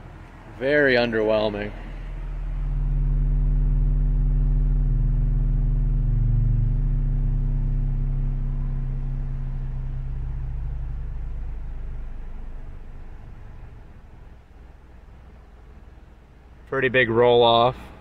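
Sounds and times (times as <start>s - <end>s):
subwoofer bass tone: 0.9s - 16.1s.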